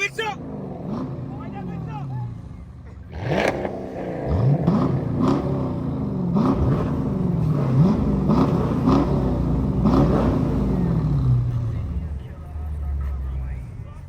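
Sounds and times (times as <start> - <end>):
car engine revving: 0.0 - 14.0
low exhaust rumble: 0.0 - 14.0.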